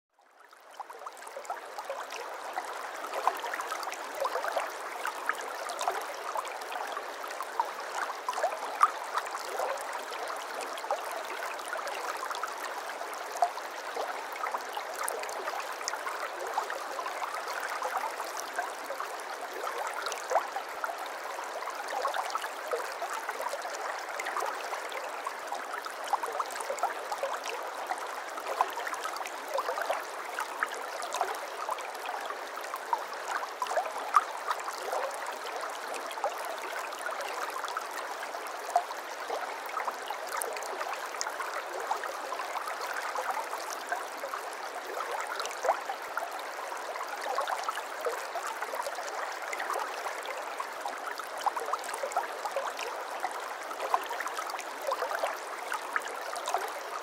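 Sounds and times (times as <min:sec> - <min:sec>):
stream babbling: 0:00.5 - 0:57.0.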